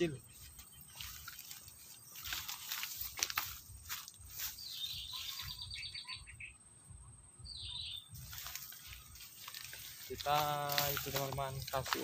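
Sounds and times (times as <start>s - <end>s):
birds trilling and calling: 0.0s - 12.0s.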